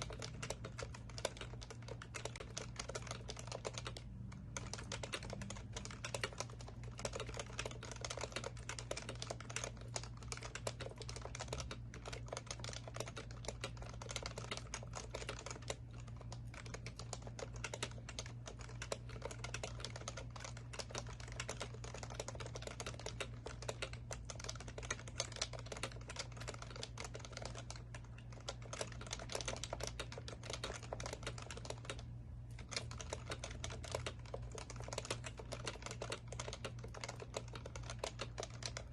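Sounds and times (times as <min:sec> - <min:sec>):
typing on a keyboard: 0:00.0 - 0:38.9.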